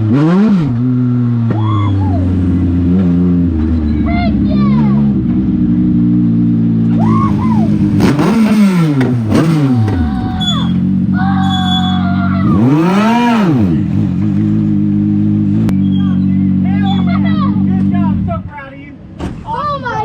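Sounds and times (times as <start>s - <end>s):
car engine revving: 0.0s - 18.3s.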